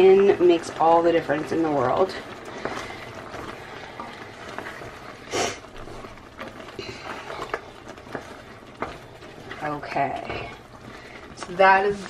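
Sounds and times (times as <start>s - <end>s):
wooden spoon stirring thick sauce: 0.0s - 12.0s.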